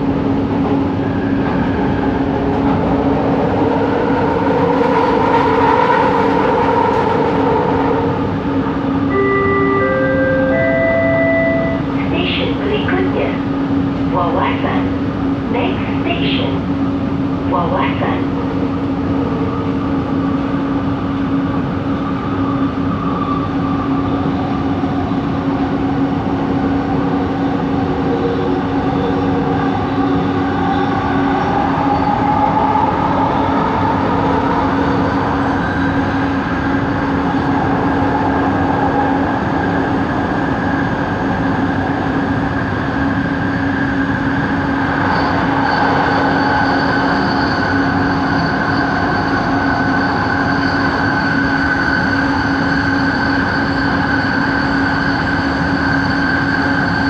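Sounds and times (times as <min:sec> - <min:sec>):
train hum: 0:00.0 - 0:57.0.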